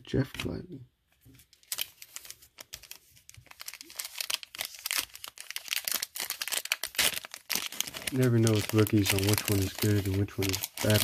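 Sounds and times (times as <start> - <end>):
foil wrapper crinkling and tearing: 1.6 - 11.0.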